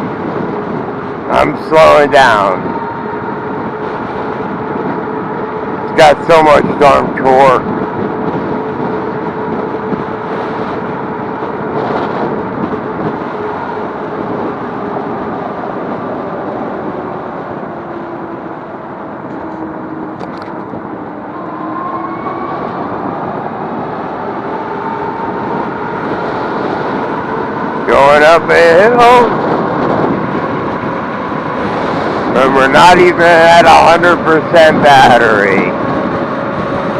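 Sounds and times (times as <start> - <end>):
road noise: 0.0 - 36.9
rushing wind: 0.0 - 36.9.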